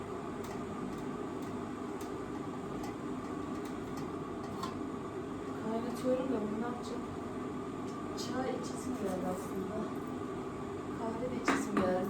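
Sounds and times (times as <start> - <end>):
water heating in electric kettle: 0.0 - 10.2, 11.3 - 12.0.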